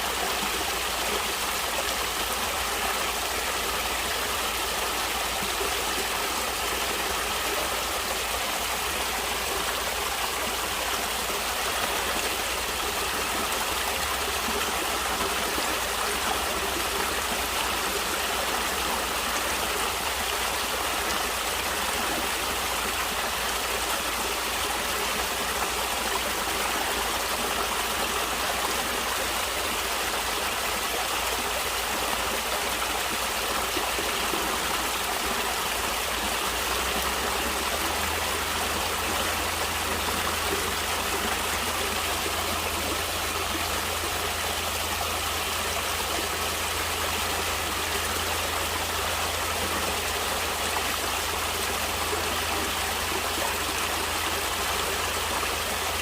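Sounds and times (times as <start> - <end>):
stream water flowing and splashing: 0.0 - 56.0.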